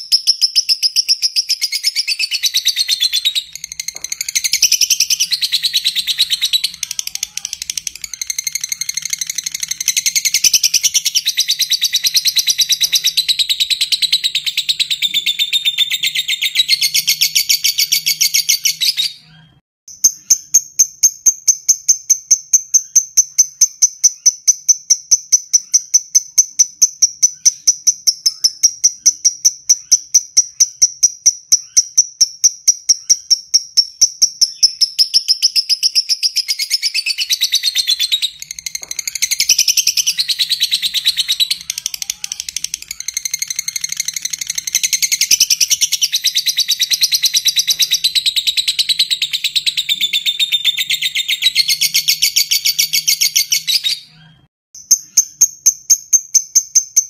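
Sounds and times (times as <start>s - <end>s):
lovebird chattering trill: 0.0s - 19.2s, 19.9s - 57.0s.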